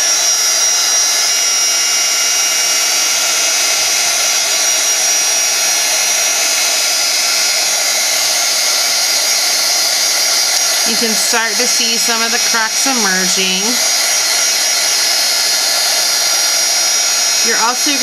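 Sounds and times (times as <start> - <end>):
heat gun blowing hot air: 0.0 - 18.0.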